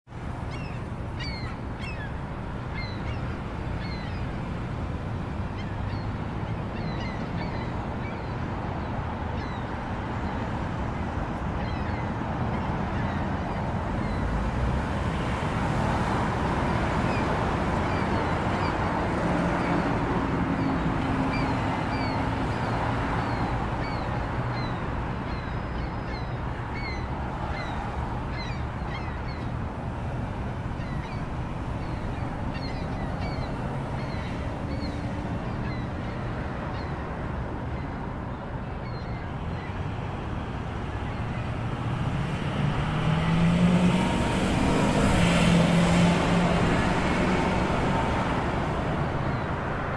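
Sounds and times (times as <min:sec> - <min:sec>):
traffic rumble: 0:00.1 - 0:49.9.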